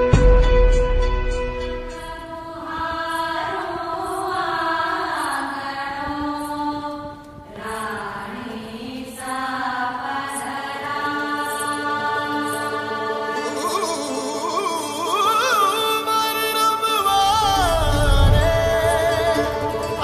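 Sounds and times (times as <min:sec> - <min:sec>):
chanted vocal music: 0:00.0 - 0:20.0.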